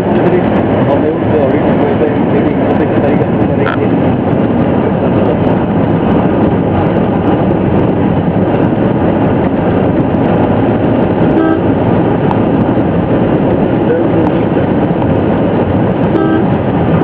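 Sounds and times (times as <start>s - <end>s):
low car hum: 0.0s - 17.0s
tyres on wet road: 0.0s - 17.0s.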